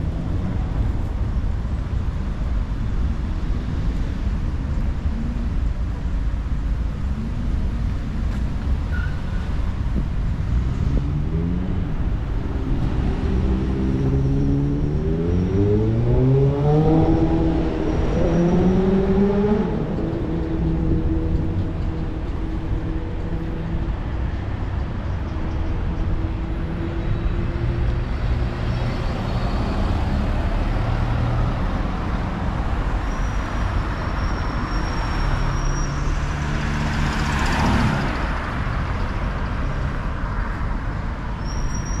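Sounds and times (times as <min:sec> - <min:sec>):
cars driving past: 0:06.6 - 0:42.0.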